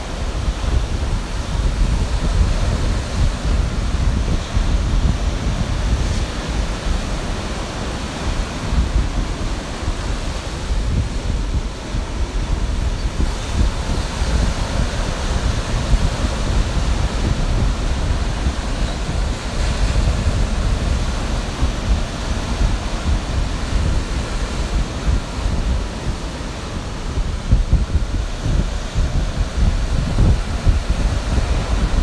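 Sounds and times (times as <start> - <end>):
ocean waves on a beach: 0.0 - 32.0
wind buffeting microphone: 0.0 - 32.0.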